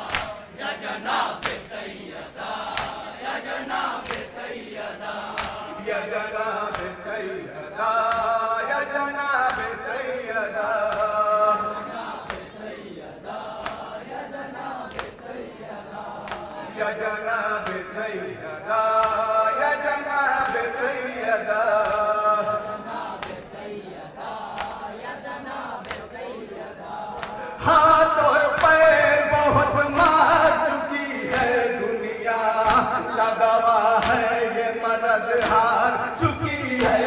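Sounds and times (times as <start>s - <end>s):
sharp hand claps: 0.0s - 31.9s, 32.5s - 37.0s
men chanting a lament: 0.0s - 37.0s.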